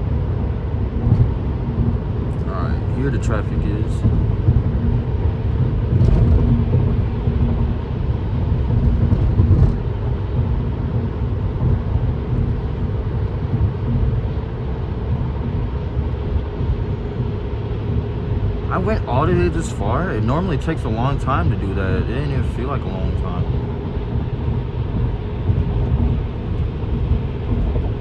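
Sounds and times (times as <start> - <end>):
car road noise on wet road: 0.0 - 28.0
faint hum: 2.2 - 9.8, 10.6 - 28.0.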